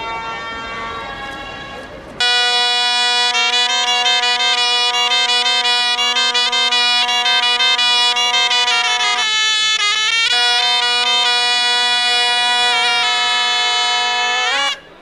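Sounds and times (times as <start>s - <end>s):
folk music on reed instruments: 0.0s - 15.0s.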